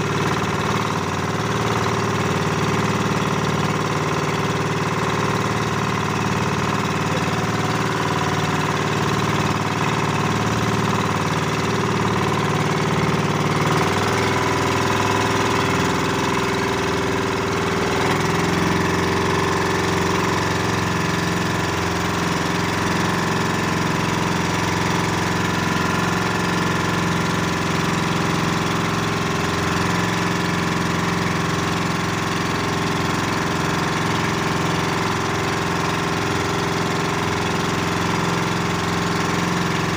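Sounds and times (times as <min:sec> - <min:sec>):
boat diesel engine running: 0:00.0 - 0:39.9.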